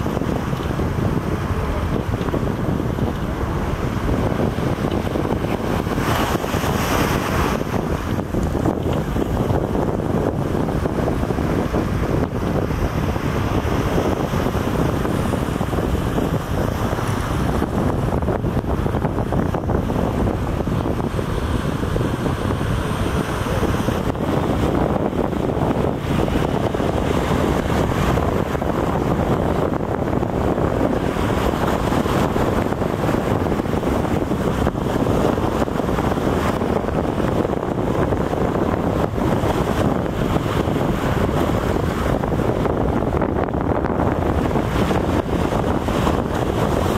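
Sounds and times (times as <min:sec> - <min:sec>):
water noise: 0:00.0 - 0:46.9
wind buffeting microphone: 0:00.0 - 0:46.9.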